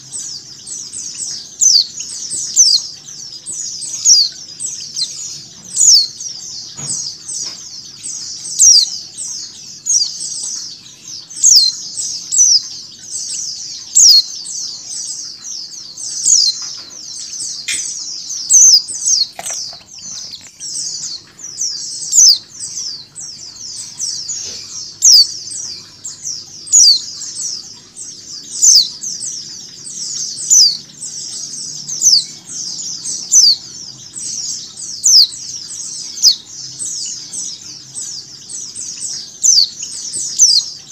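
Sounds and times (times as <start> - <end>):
flock of birds chirping: 0.0 - 40.9
louder bird chirp: 0.0 - 40.9.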